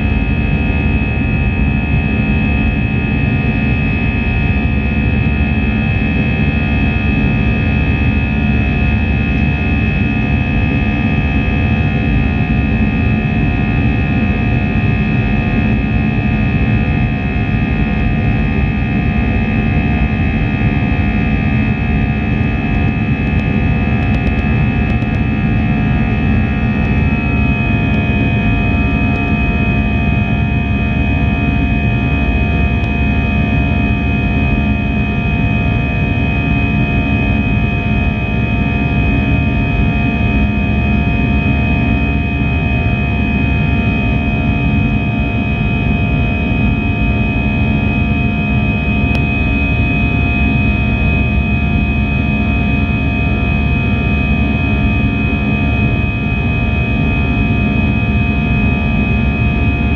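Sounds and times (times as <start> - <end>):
jet cabin engine rush: 0.0 - 59.9.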